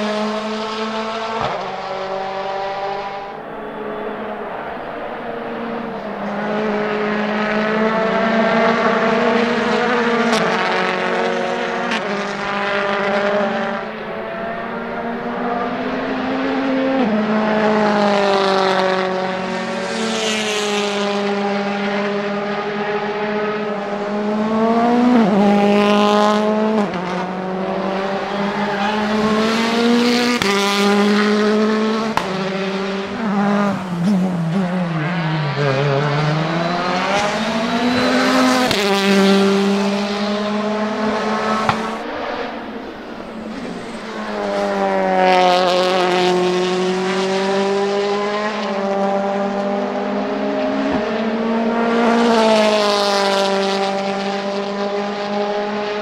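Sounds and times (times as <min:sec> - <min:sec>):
rally car engines accelerating: 0:00.0 - 0:56.0.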